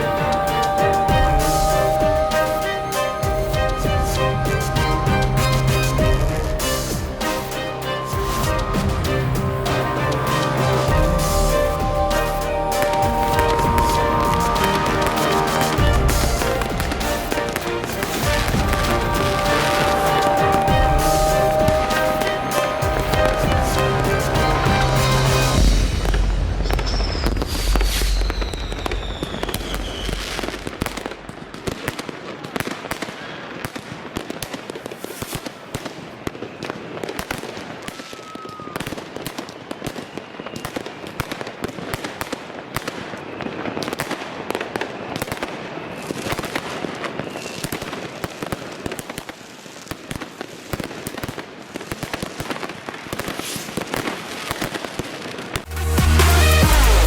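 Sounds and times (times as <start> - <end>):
falling firework whistle: 0.0 - 57.0
fireworks banging and crackling: 0.0 - 57.0.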